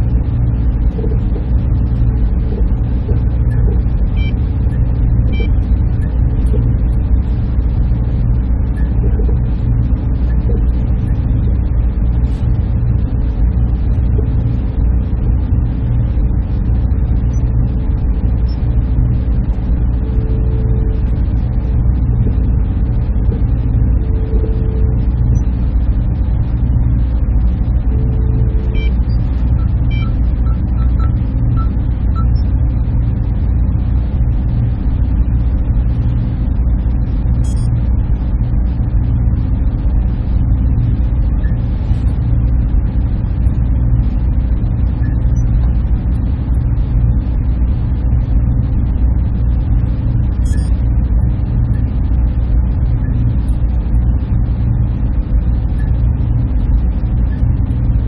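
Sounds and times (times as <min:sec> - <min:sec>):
server machinery droning: 0:00.0 - 0:58.0.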